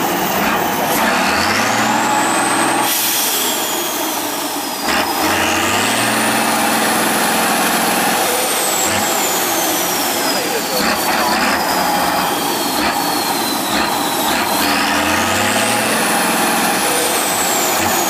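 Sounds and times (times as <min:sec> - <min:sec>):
truck diesel engine revving: 0:00.0 - 0:18.0.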